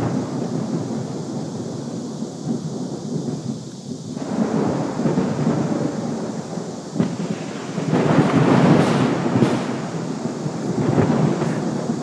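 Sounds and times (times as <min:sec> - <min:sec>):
rain falling: 0:00.0 - 0:12.0
thunder rumbling: 0:00.0 - 0:12.0.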